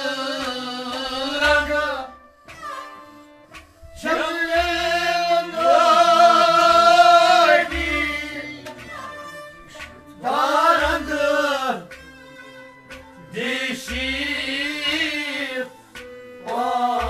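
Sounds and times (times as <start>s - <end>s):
man singing: 0.0s - 2.2s, 3.9s - 15.8s, 16.4s - 17.0s
harmonium held notes: 0.0s - 17.0s.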